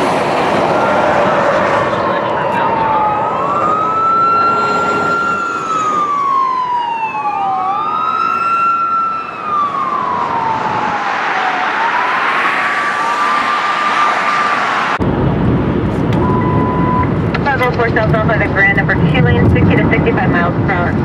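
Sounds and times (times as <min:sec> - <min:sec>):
police sirens wailing: 0:00.0 - 0:15.1, 0:16.0 - 0:21.0
fast freeway traffic: 0:00.0 - 0:21.0.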